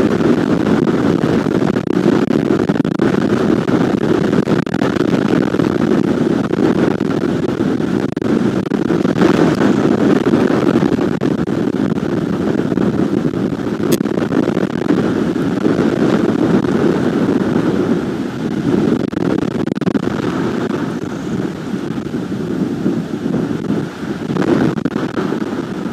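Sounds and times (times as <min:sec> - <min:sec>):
strong wind on microphone: 0:00.0 - 0:25.9.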